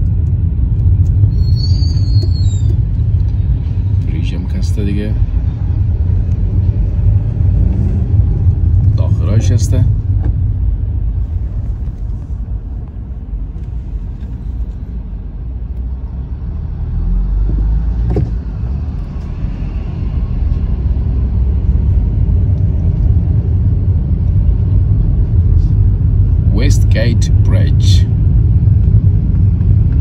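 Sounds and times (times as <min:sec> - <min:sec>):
car engine and tyres rumbling: 0:00.0 - 0:30.0.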